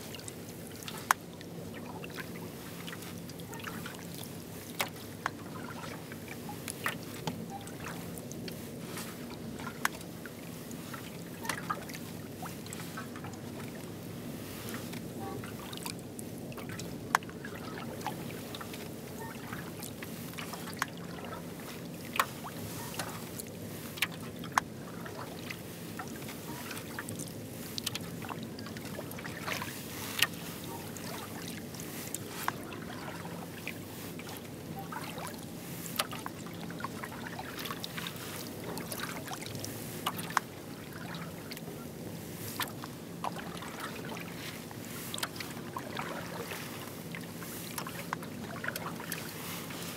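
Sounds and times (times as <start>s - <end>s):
water swishing from paddle: 0.0s - 49.9s.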